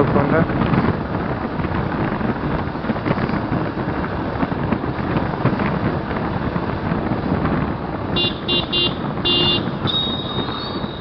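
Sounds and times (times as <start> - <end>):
road and traffic noise: 0.0 - 11.0
wind buffeting microphone: 0.0 - 11.0.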